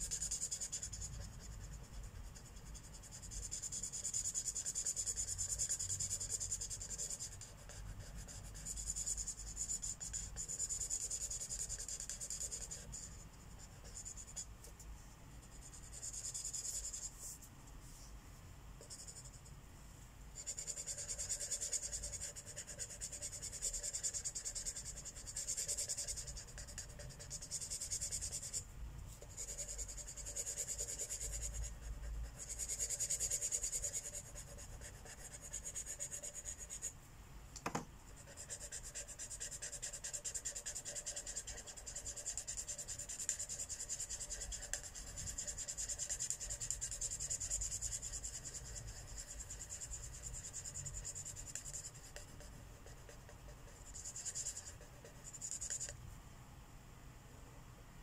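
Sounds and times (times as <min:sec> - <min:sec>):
marker rubbing on paper: 0:00.0 - 0:14.8, 0:15.4 - 0:18.1, 0:20.4 - 0:36.9, 0:38.1 - 0:55.9.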